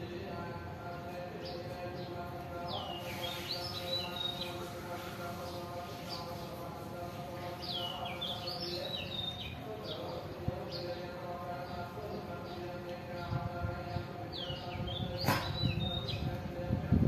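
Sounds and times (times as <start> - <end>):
songbird chirping: 0.0 - 16.6.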